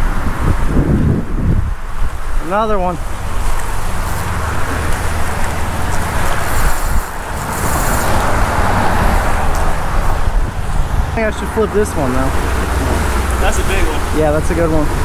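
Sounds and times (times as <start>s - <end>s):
road traffic rushing: 0.0s - 15.0s
wind buffeting microphone: 0.0s - 15.0s.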